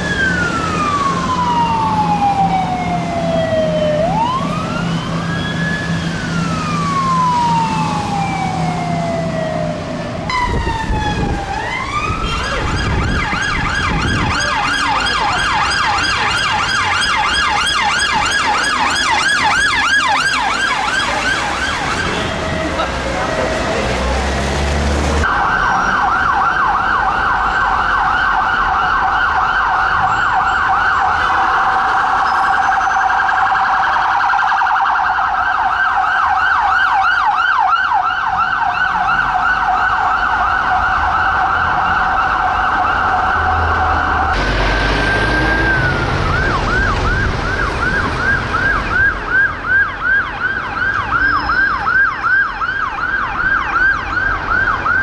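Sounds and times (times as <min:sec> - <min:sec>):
emergency siren yelping: 0:00.0 - 0:55.0
second siren swooping: 0:00.0 - 0:55.0.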